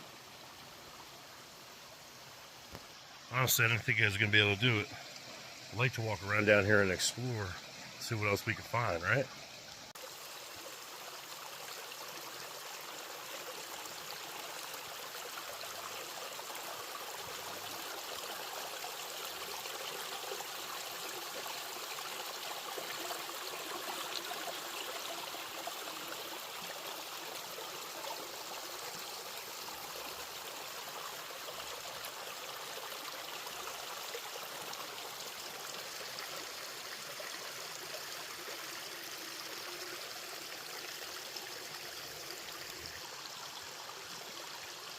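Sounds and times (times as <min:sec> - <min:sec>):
stream of water running: 0:00.0 - 0:44.9.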